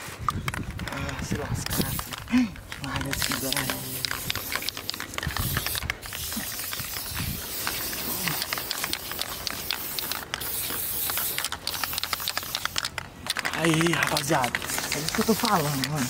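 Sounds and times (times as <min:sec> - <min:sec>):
spray paint can hissing: 0:01.4 - 0:16.0.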